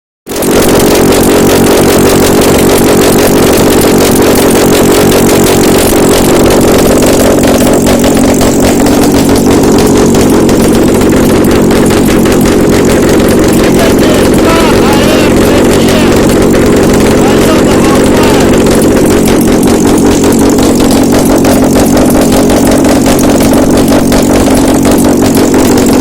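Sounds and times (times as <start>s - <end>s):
petrol engine running steadily: 0.3s - 26.0s.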